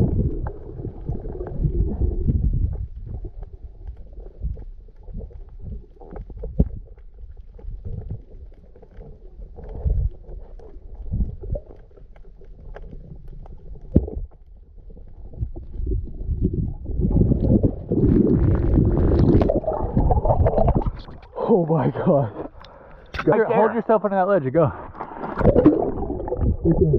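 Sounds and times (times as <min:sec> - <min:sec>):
underwater clicks and knocks: 0:00.0 - 0:15.8, 0:16.4 - 0:21.4, 0:25.0 - 0:26.9
muffled underwater rumbling wash: 0:00.0 - 0:26.9.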